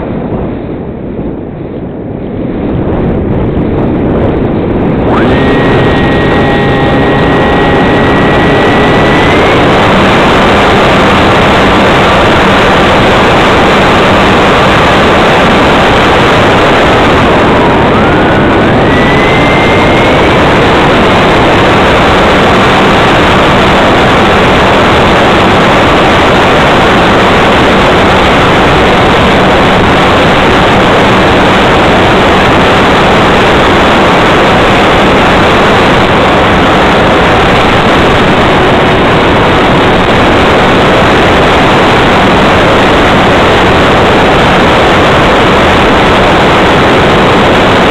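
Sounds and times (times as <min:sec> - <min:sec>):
motor and propeller noise: 0:00.0 - 0:47.9
wind rush: 0:00.0 - 0:47.9
faint whine changing pitch: 0:00.7 - 0:47.9.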